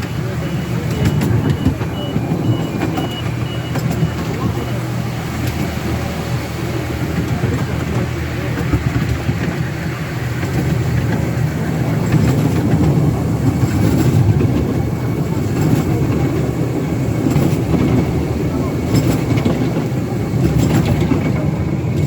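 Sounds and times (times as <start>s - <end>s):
miniature train rumbling on track: 0.0s - 22.0s
sharp track clicks: 0.0s - 22.0s.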